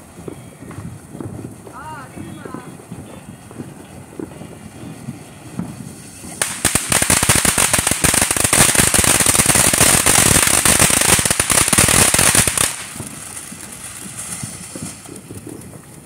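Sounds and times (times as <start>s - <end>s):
firework crackling: 0.0s - 16.0s
firework hissing: 0.0s - 16.0s.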